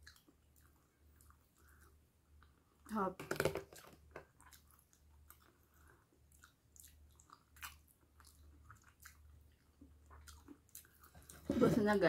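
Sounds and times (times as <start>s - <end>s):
soft mouth clicks and smacks: 0.0s - 2.6s, 3.8s - 11.4s
person chewing food: 0.0s - 2.8s, 3.8s - 11.6s.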